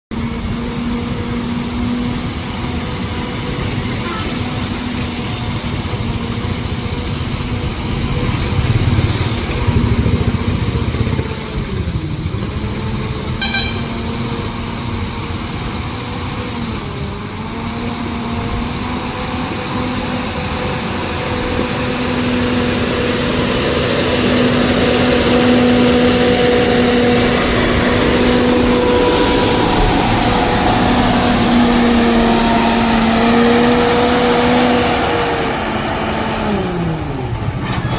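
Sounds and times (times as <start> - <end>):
diesel engine under load: 0.1 - 37.9.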